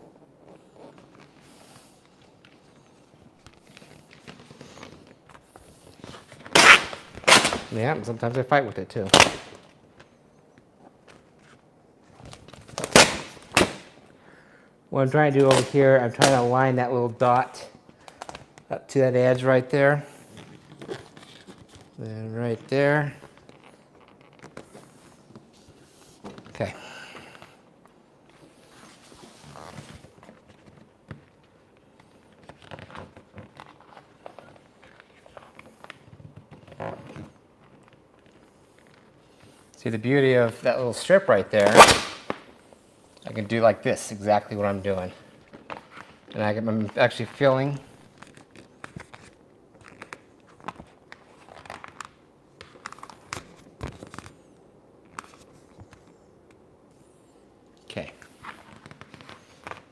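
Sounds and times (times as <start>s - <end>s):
plastic film rustling and sliding: 0.0s - 10.2s, 19.4s - 56.3s, 58.0s - 59.9s
film crinkling: 0.0s - 14.1s, 17.2s - 19.4s, 20.2s - 57.0s, 57.8s - 59.9s.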